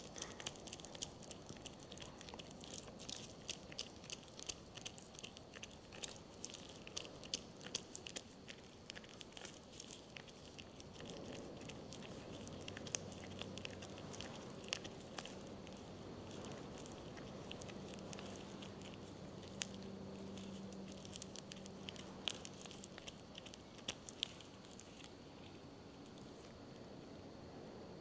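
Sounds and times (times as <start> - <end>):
squishy grease clicks: 0.0 - 26.3
faint steady hum: 0.0 - 28.0.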